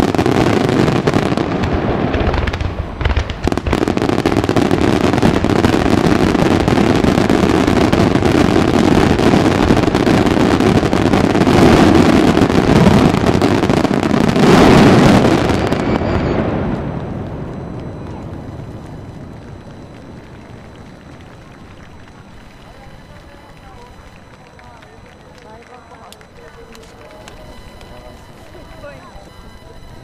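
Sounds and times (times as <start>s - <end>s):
fireworks bursts and crackle: 0.0s - 30.0s.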